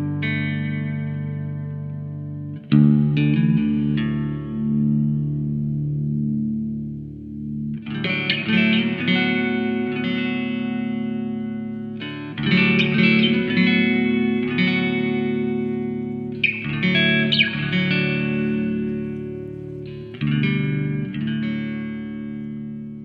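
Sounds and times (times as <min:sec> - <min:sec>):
guitar chords with effects: 0:00.0 - 0:23.0.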